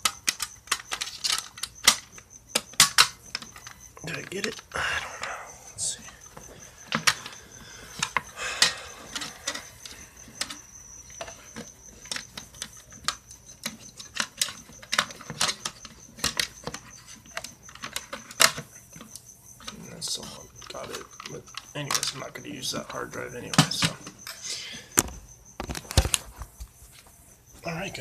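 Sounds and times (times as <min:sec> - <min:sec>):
small parts clicking and clattering: 0:00.0 - 0:27.1
faint high whine: 0:00.0 - 0:28.0.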